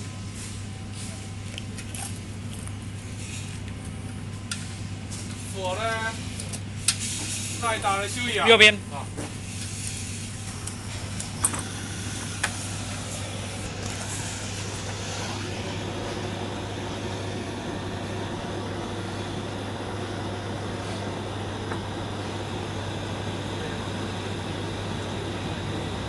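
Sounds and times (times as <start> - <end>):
constant low hum: 0.0 - 26.0
torch flame hissing: 4.6 - 26.0.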